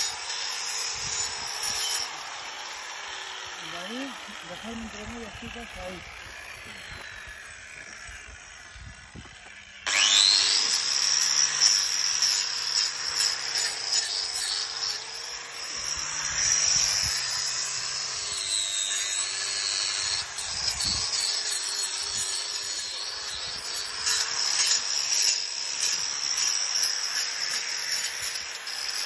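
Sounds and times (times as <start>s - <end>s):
angle grinder whining: 0.0s - 29.0s.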